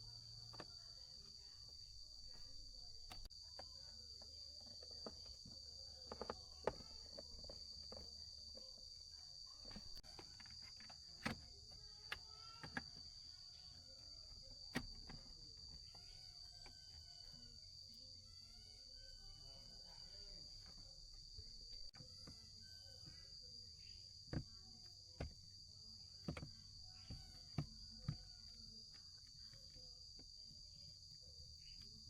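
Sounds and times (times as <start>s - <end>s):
crickets droning: 0.0s - 32.0s.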